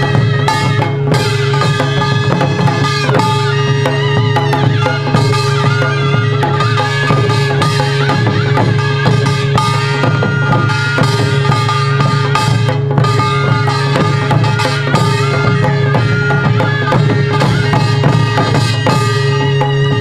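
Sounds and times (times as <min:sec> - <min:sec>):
barrel drums struck with sticks: 0:00.0 - 0:19.6
brass gong: 0:00.0 - 0:19.9
held melodic line: 0:00.0 - 0:20.0
hourglass drum: 0:00.0 - 0:20.0.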